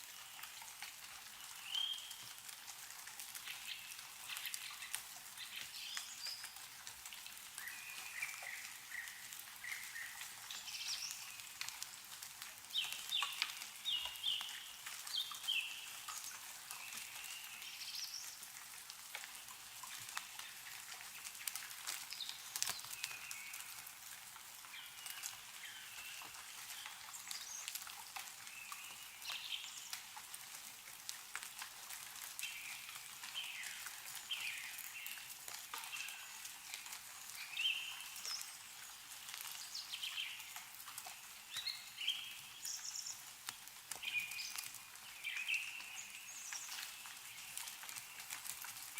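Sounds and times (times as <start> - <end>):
meltwater dripping from trees: 0.0 - 48.9
small birds chirping: 1.2 - 2.5, 3.2 - 18.6, 19.2 - 30.2, 32.2 - 48.9.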